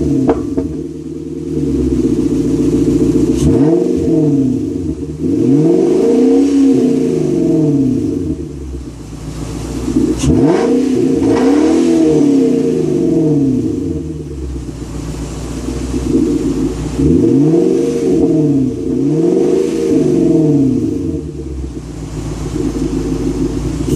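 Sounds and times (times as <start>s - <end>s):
car exhaust idling and revving: 0.0s - 23.9s.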